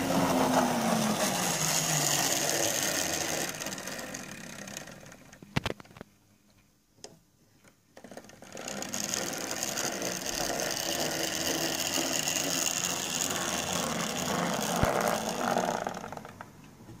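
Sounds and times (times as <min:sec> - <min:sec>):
model train motor whirring: 0:00.0 - 0:05.5, 0:08.0 - 0:16.3.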